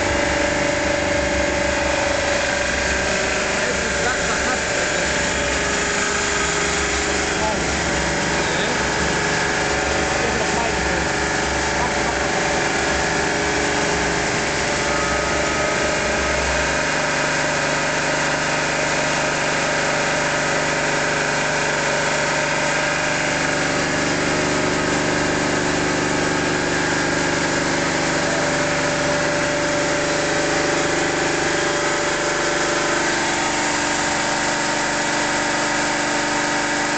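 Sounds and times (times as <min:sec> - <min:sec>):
motor-driven pump running: 0:00.0 - 0:36.9.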